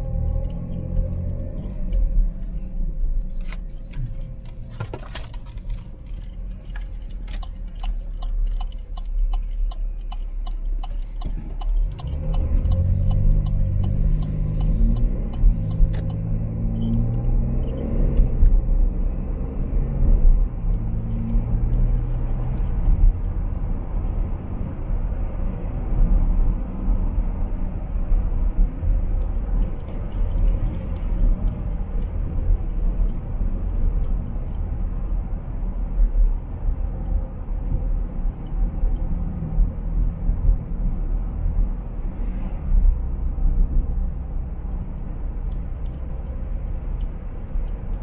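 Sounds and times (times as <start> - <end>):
car engine rumble: 0.0 - 48.0
road noise: 0.0 - 48.0
turn signal ticking: 0.0 - 48.0.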